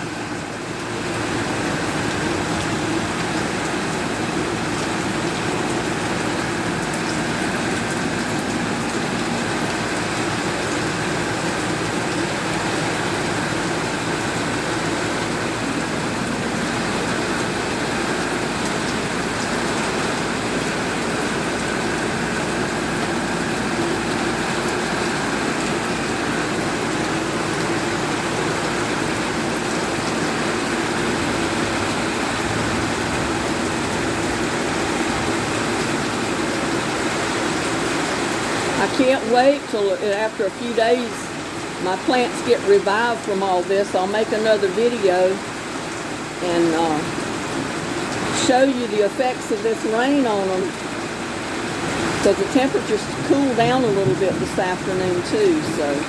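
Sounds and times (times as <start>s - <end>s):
rain hissing: 0.0s - 56.0s.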